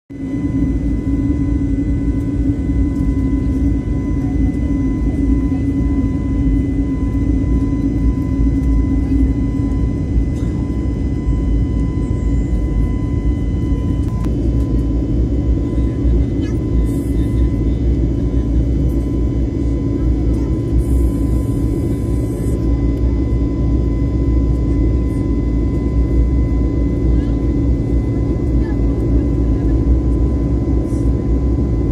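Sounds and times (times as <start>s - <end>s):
airplane engine drone: 0.1s - 31.9s.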